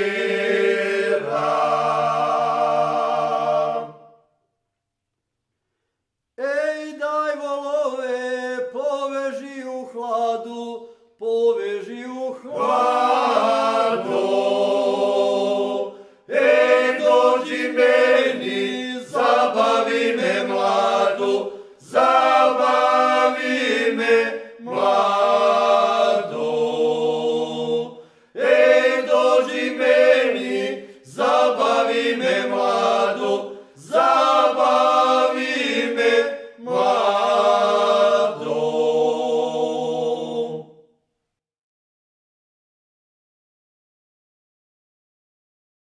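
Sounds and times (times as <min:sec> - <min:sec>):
male group singing a cappella: 0:00.0 - 0:04.1, 0:06.4 - 0:40.8.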